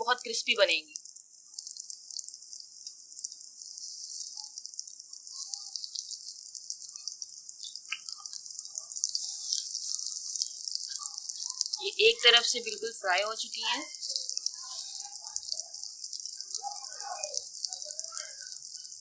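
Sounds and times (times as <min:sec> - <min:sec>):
cutlets sizzling in oil: 0:00.0 - 0:19.0.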